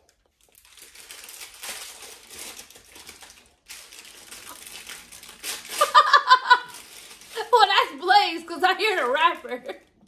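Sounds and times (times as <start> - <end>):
wrapper crinkling: 0.0 - 10.0.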